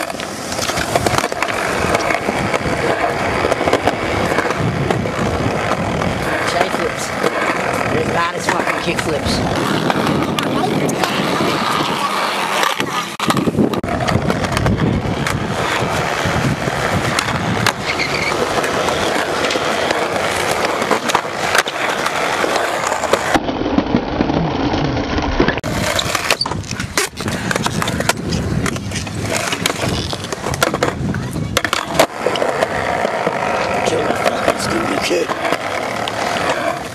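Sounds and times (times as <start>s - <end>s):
skateboard clacking on ground: 0.0s - 36.9s
skateboard wheels rolling on concrete: 0.0s - 36.9s.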